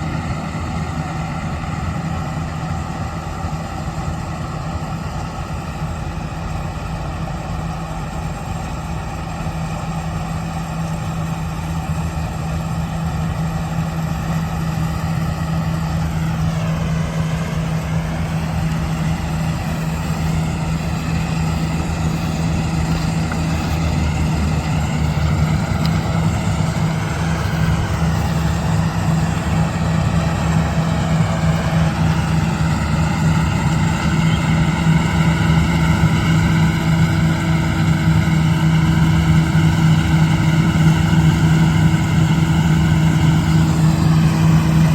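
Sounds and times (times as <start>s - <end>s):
combine harvester engine hum: 0.0s - 44.9s
machinery noise: 0.0s - 44.9s.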